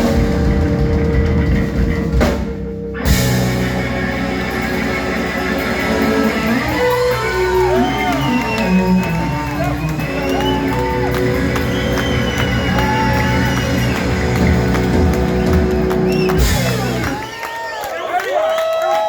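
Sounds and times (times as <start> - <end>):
electric guitar bending notes: 0.0 - 17.2
blues band playing: 0.0 - 17.4.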